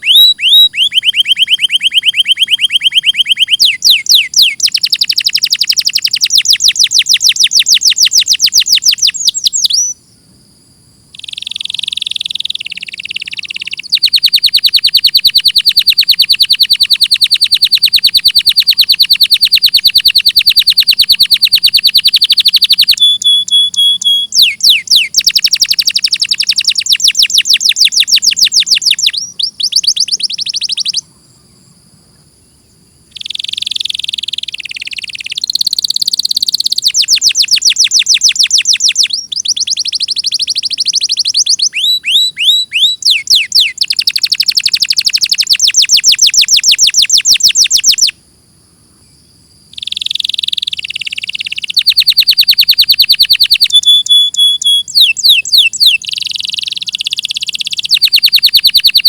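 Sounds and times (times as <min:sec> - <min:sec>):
canary singing trills: 0:00.0 - 0:10.2, 0:11.1 - 0:31.5, 0:32.5 - 0:48.2, 0:49.7 - 0:59.0.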